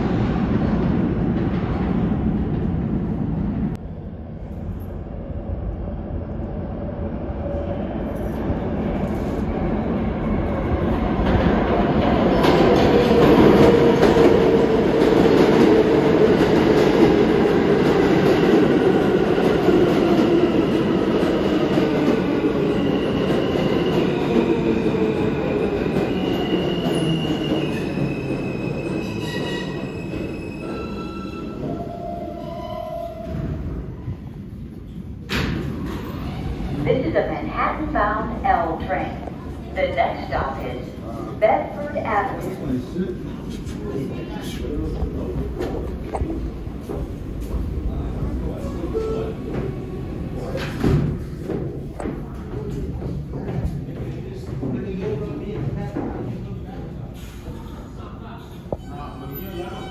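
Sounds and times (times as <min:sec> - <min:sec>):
subway train motors whining: 0:00.0 - 0:59.9.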